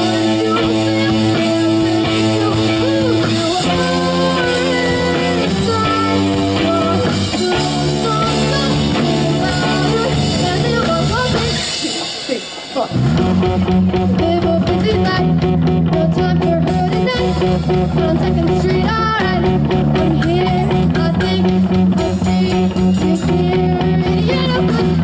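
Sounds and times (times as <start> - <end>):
person singing: 0.0 - 12.5, 14.0 - 25.0
bass guitar: 0.0 - 25.0
drum kit: 0.0 - 25.0
electric guitar: 0.0 - 25.0.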